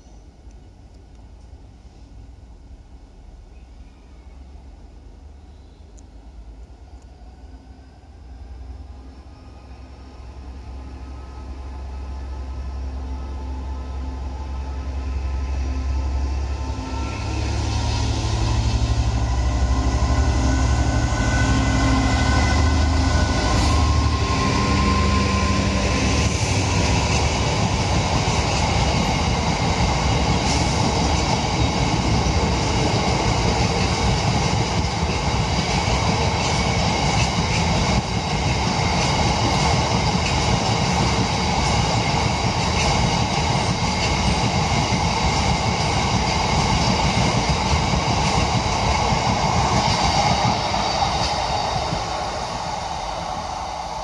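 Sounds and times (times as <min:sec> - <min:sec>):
diesel locomotive engine: 0:00.0 - 0:54.0
train wheels rumbling on rails: 0:05.9 - 0:54.0.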